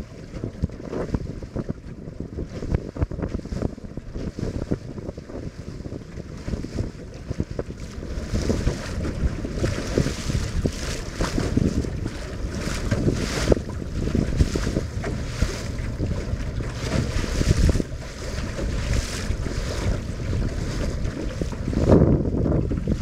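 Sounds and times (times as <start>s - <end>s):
water splashing against hull: 0.0s - 23.0s
wind buffeting microphone: 0.0s - 23.0s.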